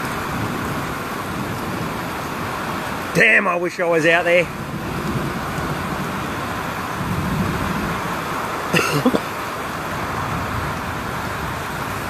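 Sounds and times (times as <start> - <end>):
heavy rain: 0.0 - 12.0
strong wind: 0.0 - 12.0.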